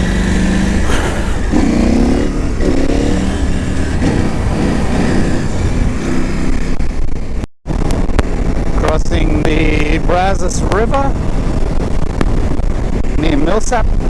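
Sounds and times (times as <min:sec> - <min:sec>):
motorcycle engine revving: 0:00.0 - 0:14.0
wind rumble: 0:00.0 - 0:14.0.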